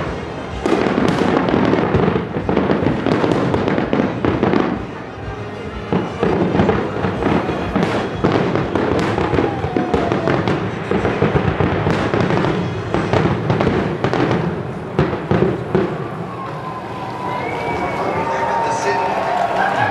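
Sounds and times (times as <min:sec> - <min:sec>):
fireworks bangs and crackles: 0:00.0 - 0:19.9
loud firework reports: 0:00.0 - 0:19.9.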